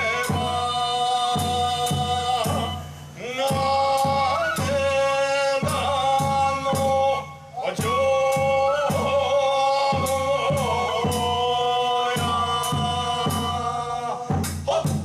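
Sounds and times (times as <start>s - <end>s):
chant-like held notes: 0.0s - 15.0s
drum and cymbal beats: 0.0s - 15.0s.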